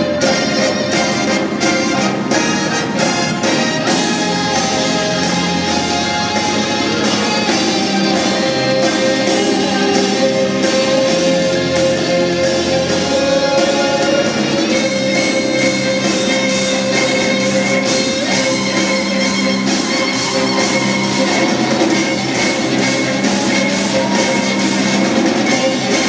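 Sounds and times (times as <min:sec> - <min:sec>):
rock music on cellos and orchestra: 0:00.0 - 0:26.0.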